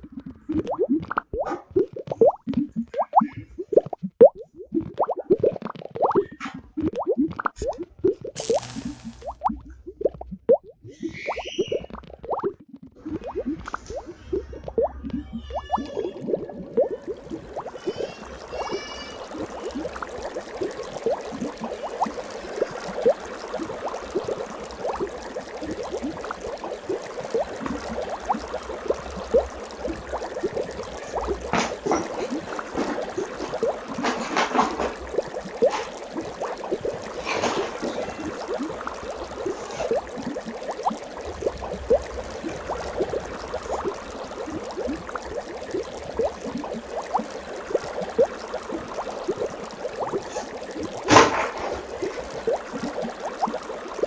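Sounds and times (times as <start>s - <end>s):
water bubbling and gurgling: 0.0s - 54.0s
water splashing: 0.0s - 54.0s.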